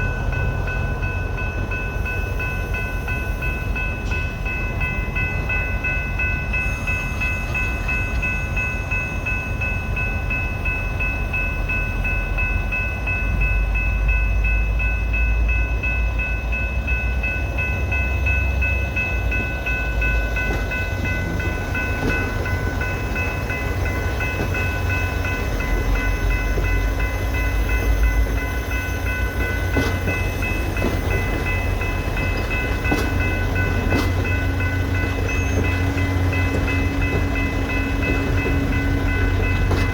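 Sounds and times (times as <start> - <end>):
diesel locomotive engine rumble: 0.0 - 39.9.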